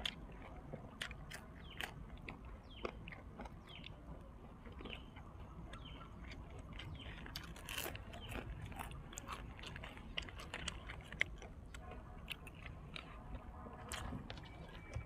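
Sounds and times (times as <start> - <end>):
man chewing crisp food: 0.0 - 15.0.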